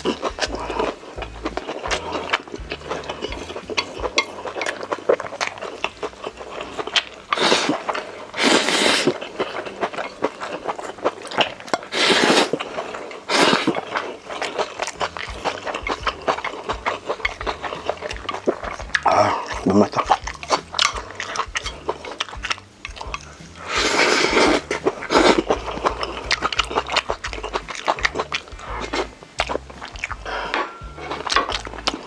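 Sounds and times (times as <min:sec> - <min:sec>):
person chewing: 0:00.0 - 0:32.0
utensils clicking against dishes: 0:00.0 - 0:32.0.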